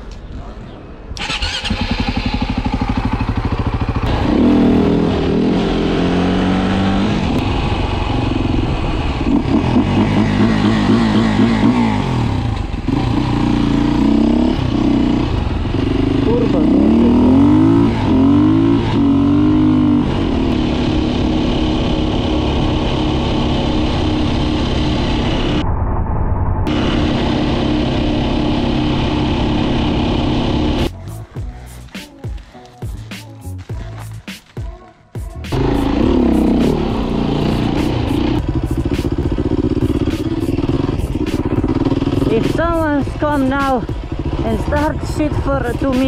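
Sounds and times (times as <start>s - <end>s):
dirt bike engine running: 1.4s - 25.5s, 26.7s - 46.0s.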